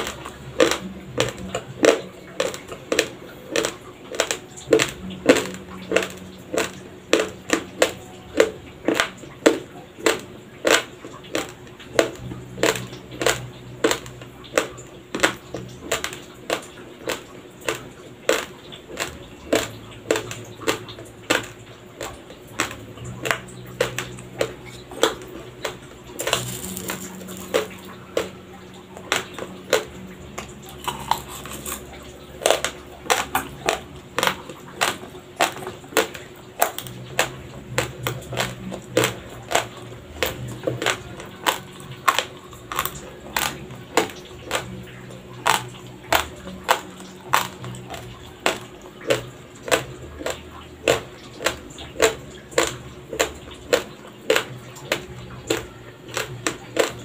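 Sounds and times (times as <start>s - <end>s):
raw rice crunching being chewed: 0.0s - 57.0s.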